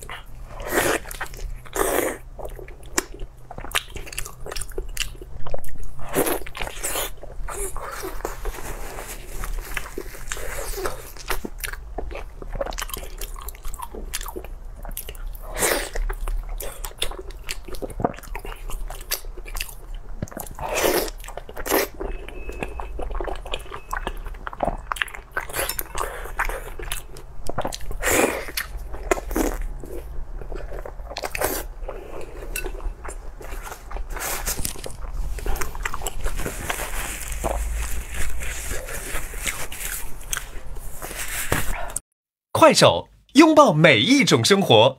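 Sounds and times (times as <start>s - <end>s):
person chewing and biting: 0.0s - 41.9s.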